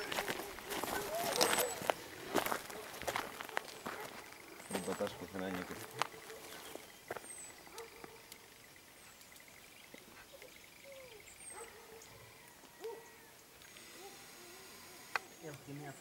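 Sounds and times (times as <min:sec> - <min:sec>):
distant animal calls: 0:00.0 - 0:08.6, 0:09.9 - 0:16.0.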